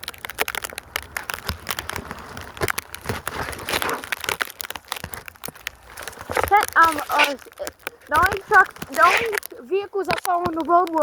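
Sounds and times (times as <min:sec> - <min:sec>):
snow crunching and crackling: 0:00.0 - 0:11.0.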